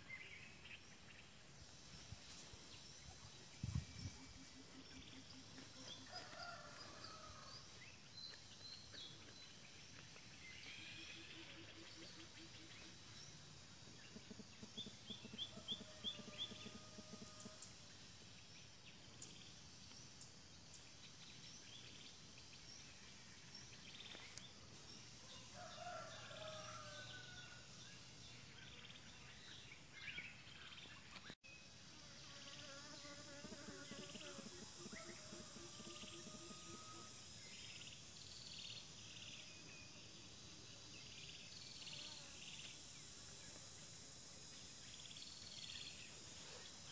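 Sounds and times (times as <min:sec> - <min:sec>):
high insect hiss: 0:00.0 - 0:46.9.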